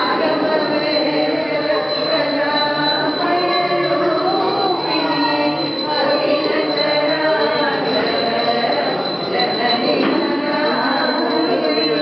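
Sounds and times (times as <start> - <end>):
many voices talking: 0.0 - 12.0
music or chanting: 0.0 - 12.0.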